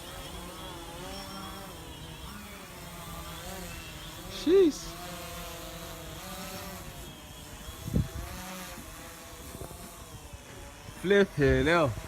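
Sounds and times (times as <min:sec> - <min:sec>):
drone motors humming: 0:00.0 - 0:12.0.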